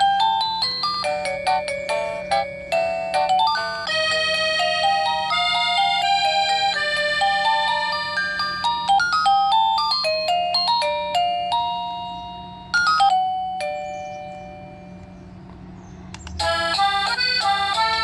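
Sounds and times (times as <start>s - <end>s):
doorbell electronic chime melody: 0.0s - 15.2s
bright chime ringing: 0.0s - 15.3s.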